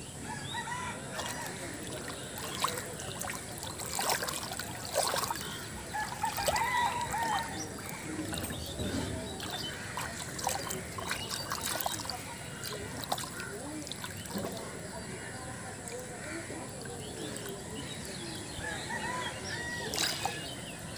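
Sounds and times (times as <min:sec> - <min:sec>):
pond water trickling and splashing: 0:00.8 - 0:20.9.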